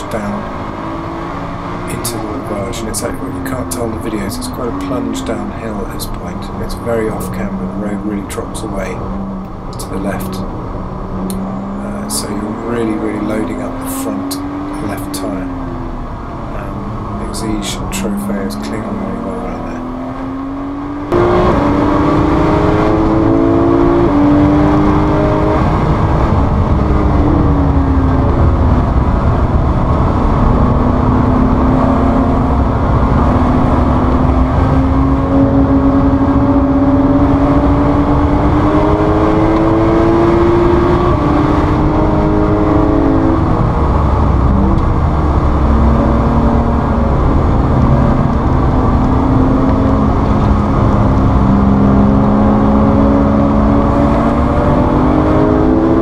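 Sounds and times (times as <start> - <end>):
car engine accelerating through gears: 0.0 - 56.0
road and wind noise: 0.0 - 56.0.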